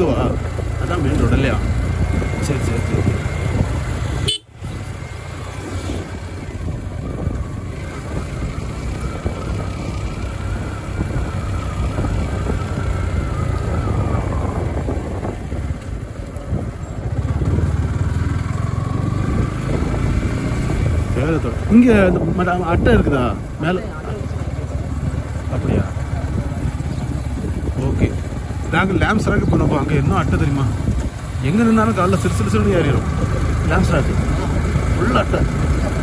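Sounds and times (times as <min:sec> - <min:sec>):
motorcycle engine: 0:00.0 - 0:36.0
wind rumble on microphone: 0:00.0 - 0:36.0.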